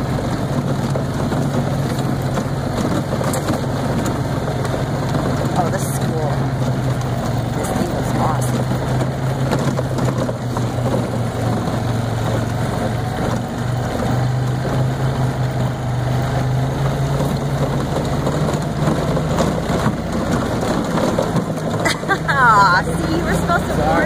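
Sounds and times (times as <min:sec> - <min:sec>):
golf cart drive hum: 0:00.0 - 0:24.0
tyres rumbling on rough ground: 0:00.0 - 0:24.0.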